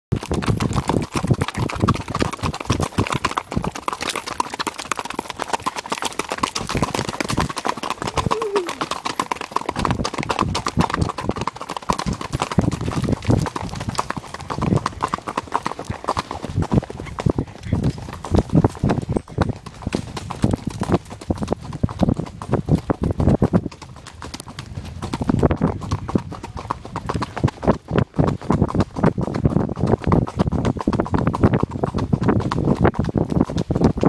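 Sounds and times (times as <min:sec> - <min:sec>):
hoofbeats on gravel: 0:00.1 - 0:34.0.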